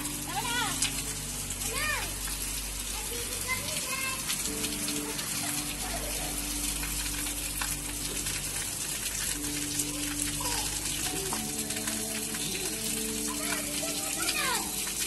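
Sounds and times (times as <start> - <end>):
gushing water: 0.0 - 15.0.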